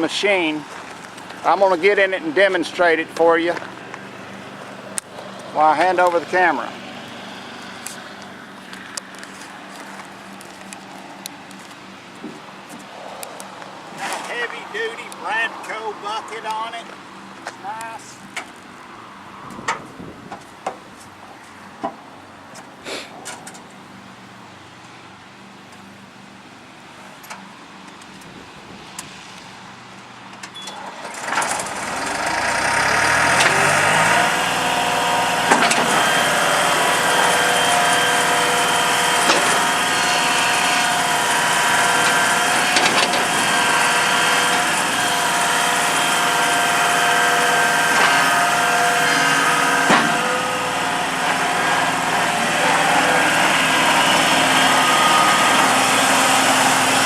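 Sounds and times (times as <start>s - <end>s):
diesel engine starting and running: 0.0s - 57.0s.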